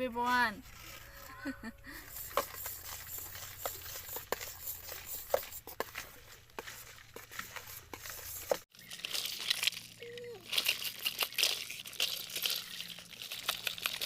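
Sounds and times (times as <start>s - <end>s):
utensil stirring ice-cream mixture: 2.0s - 6.0s, 6.6s - 14.0s.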